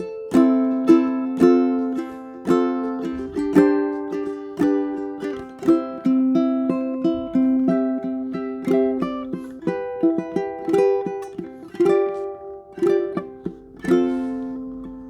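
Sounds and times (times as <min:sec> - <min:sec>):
ukulele plucked melody: 0:00.0 - 0:15.0.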